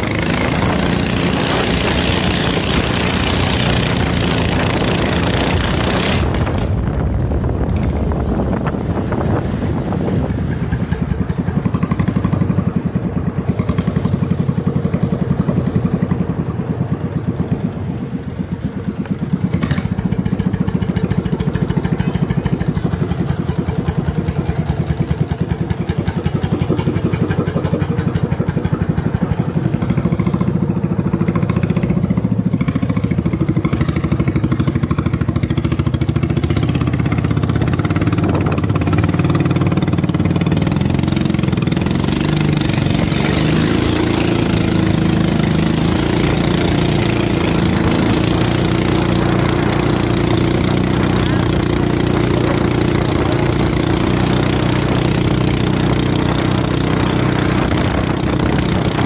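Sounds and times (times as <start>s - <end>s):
small petrol engine running fast: 0.0s - 59.0s.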